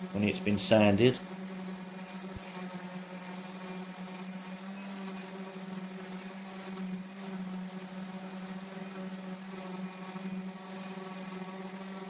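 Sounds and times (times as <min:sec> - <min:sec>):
electric sander on wood: 0:00.0 - 0:12.0.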